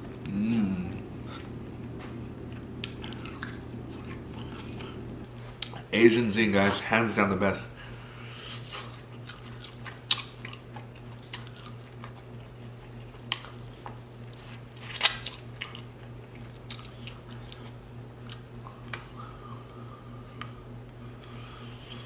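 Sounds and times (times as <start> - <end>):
chewing and lip-smacking: 1.0 - 5.9, 8.0 - 22.0.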